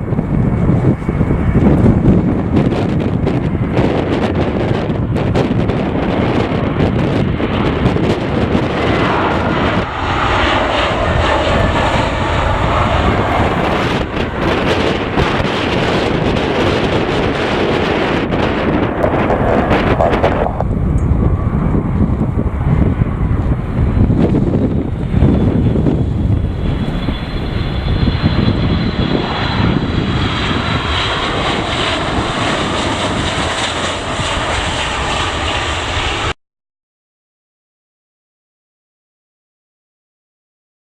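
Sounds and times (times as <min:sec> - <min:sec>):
airliner engines passing: 0:00.0 - 0:36.4
wind buffeting microphone: 0:00.0 - 0:36.4.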